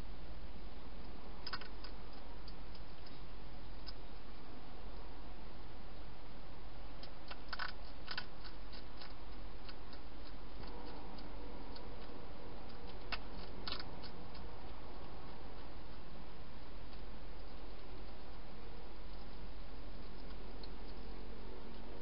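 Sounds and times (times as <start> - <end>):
hedgehog crunching dry food: 1.4 - 4.1, 7.0 - 22.0.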